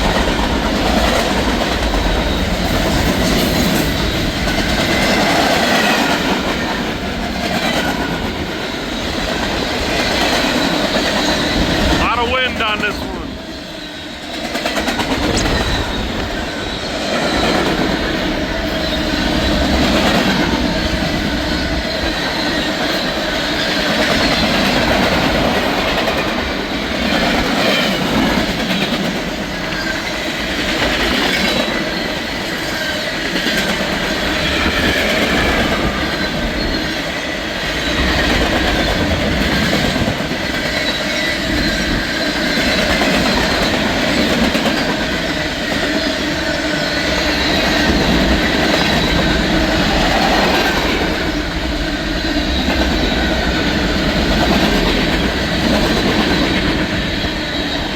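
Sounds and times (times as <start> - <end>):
train wheel clatter: 0.0 - 12.0, 13.5 - 57.9
train wheel squeal: 0.0 - 12.0, 13.5 - 57.9
freight train rolling by: 0.0 - 57.9.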